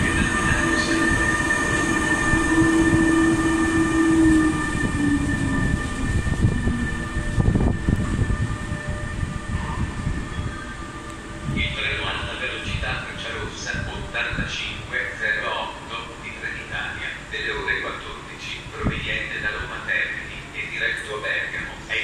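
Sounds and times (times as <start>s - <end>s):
electric locomotive hum: 0.0s - 22.0s
train wheels rumbling on rails: 0.0s - 22.0s.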